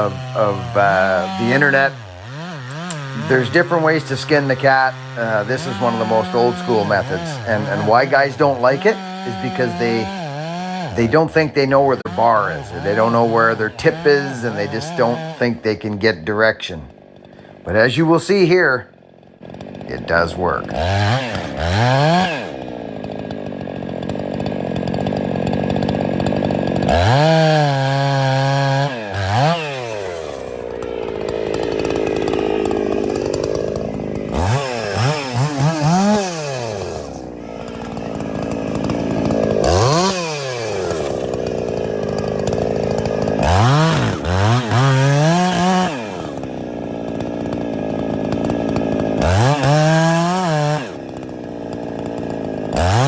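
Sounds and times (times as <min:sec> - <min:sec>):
chainsaw cutting tree trunk: 0:00.0 - 0:53.0.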